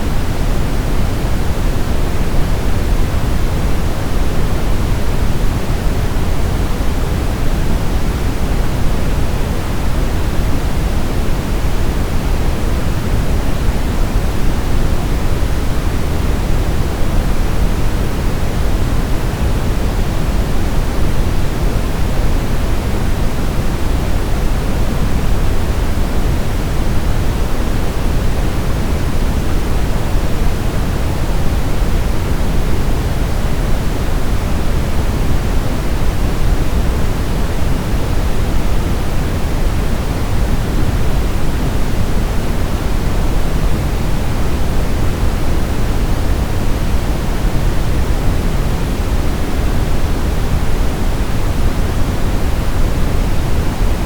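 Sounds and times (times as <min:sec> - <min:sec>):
steady brown noise: 0:00.0 - 0:54.0.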